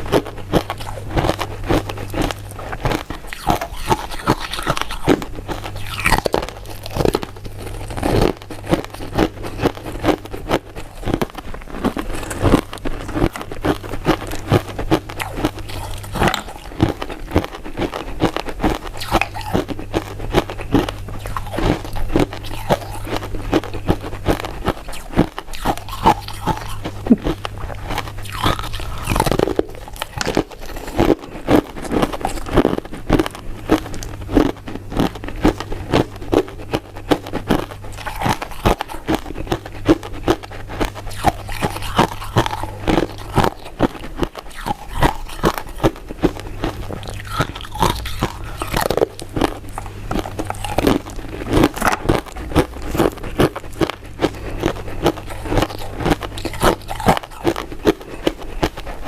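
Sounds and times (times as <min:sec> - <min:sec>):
chewing crunchy candy: 0:00.0 - 0:59.0
low hum: 0:00.0 - 0:59.0.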